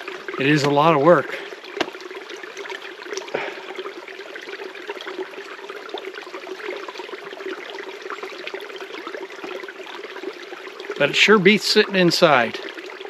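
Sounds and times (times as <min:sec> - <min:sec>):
water trickling down channel: 0:00.0 - 0:13.0.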